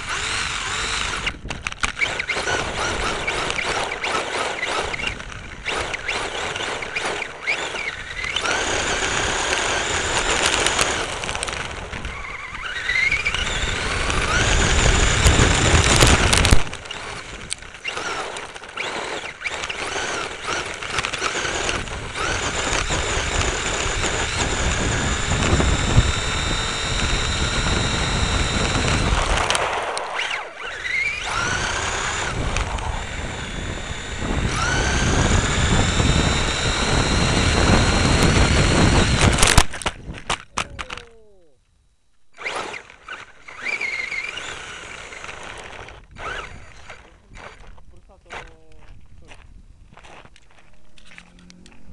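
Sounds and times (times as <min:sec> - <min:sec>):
electric motor whine: 0:00.0 - 0:40.0, 0:42.3 - 0:49.2, 0:49.9 - 0:51.9.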